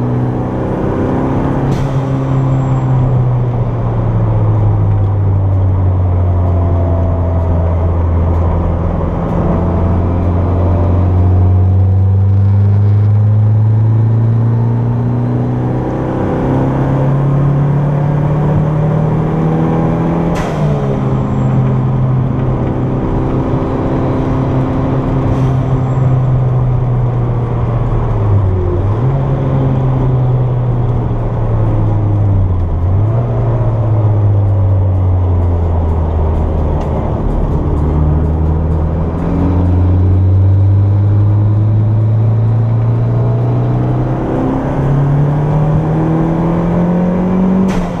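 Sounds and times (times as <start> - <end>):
car engine pulling hard: 0.0 - 48.0.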